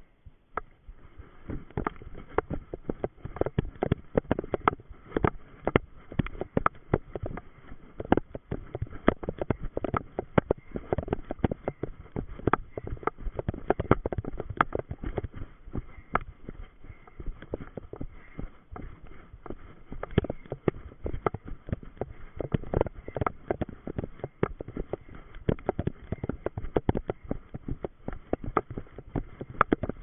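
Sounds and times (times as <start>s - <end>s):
running footsteps on moss: 0.6s - 30.0s
undergrowth brushing: 0.8s - 29.8s.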